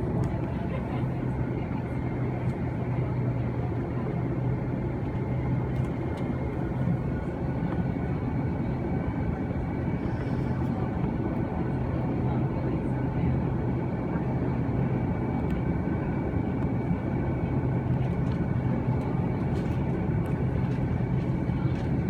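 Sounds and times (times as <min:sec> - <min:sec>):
airplane cabin engine hum: 0:00.0 - 0:22.0.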